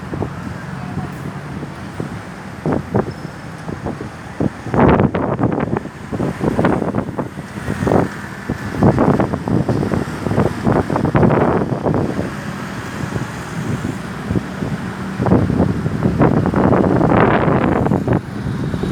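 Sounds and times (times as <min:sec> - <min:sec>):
road traffic: 0:00.0 - 0:18.9
wind buffeting microphone: 0:00.0 - 0:18.9.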